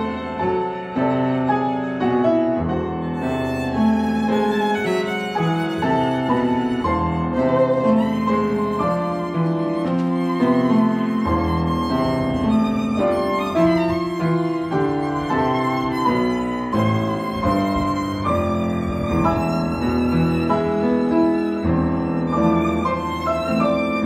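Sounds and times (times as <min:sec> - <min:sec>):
grand piano accompaniment: 0:00.0 - 0:24.0
violin melody: 0:00.0 - 0:24.0.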